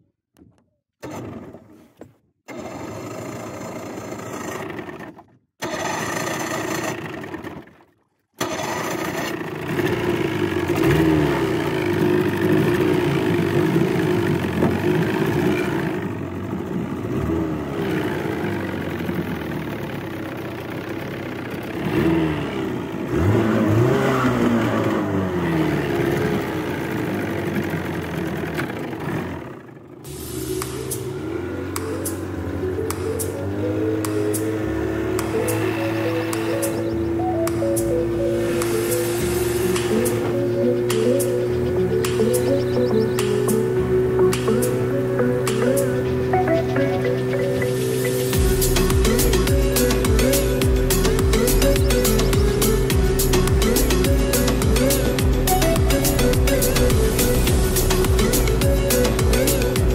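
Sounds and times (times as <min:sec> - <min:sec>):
outboard motor running: 0:00.4 - 0:59.9.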